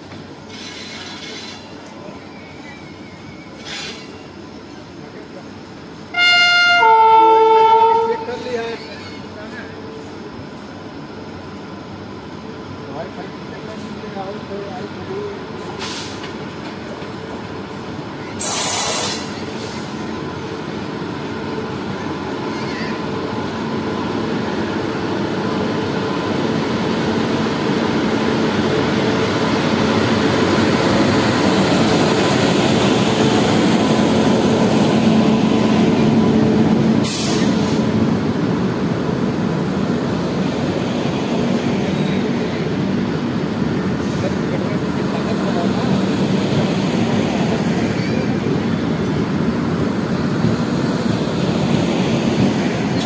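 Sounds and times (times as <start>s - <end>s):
electric train passing: 0.0s - 53.0s.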